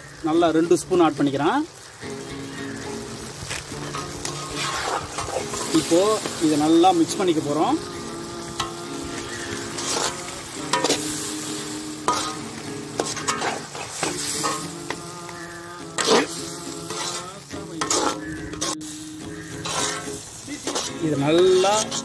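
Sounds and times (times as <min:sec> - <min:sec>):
meat sizzling in hot oil: 0:00.0 - 0:22.0
metal ladle scraping a pan: 0:03.3 - 0:15.0, 0:16.0 - 0:22.0.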